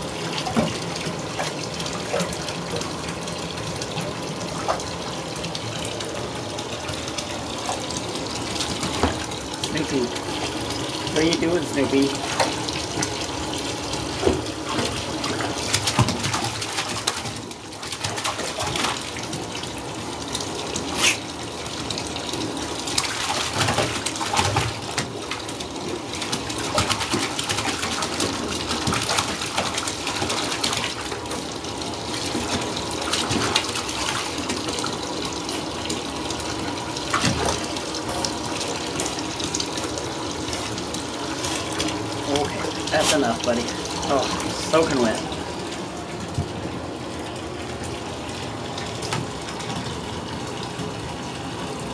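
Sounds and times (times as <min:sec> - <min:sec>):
bathtub tap running into water: 0:00.0 - 0:51.9
kitten paws splashing water: 0:00.2 - 0:46.7.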